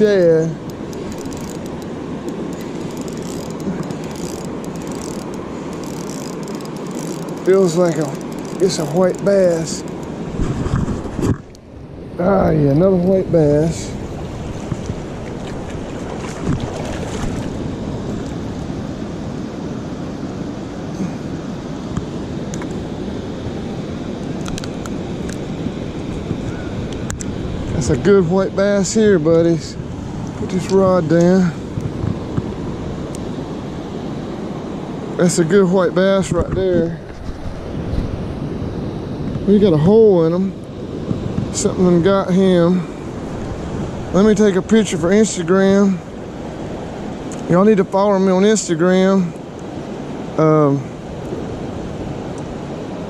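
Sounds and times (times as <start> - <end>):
wind on microphone: 0.0 - 35.2, 36.2 - 47.6.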